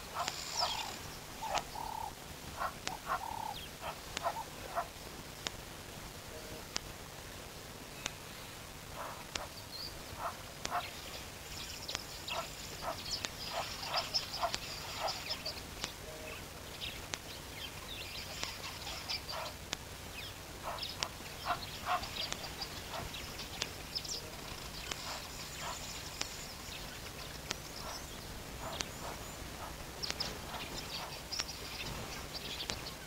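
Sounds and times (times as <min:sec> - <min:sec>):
birds chirping: 0:00.0 - 0:05.6, 0:07.6 - 0:33.0.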